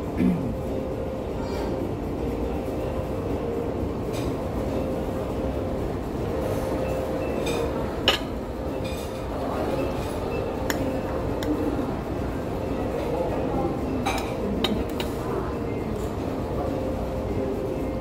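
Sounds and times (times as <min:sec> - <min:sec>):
low room noise rumble: 0:00.0 - 0:18.0.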